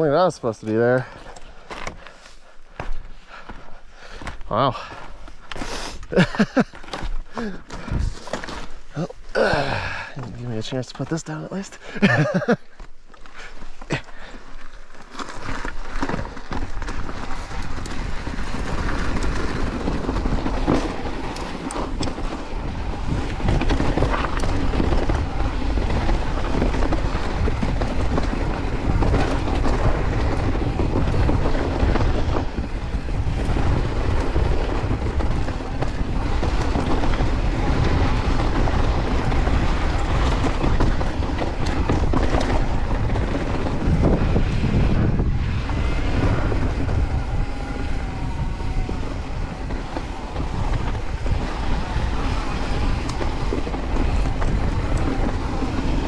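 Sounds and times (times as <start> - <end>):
bike rattling and clatter: 0.0 - 56.0
tyre rumble on dirt trail: 0.0 - 56.0.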